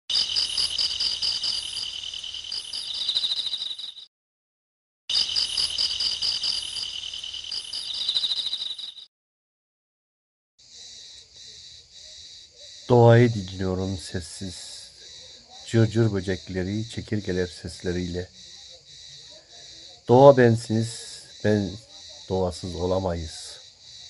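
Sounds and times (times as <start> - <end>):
crickets and grasshoppers chirping: 0.1 - 4.1, 5.1 - 9.1, 10.6 - 24.0.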